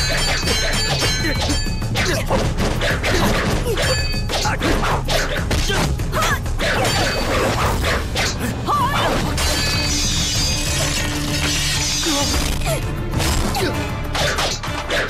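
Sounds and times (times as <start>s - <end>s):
action music: 0.0s - 15.0s.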